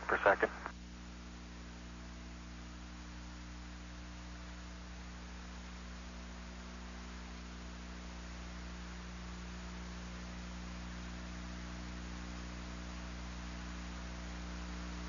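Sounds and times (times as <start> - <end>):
constant hiss: 0.0 - 15.0
electrical mains hum: 0.0 - 15.0.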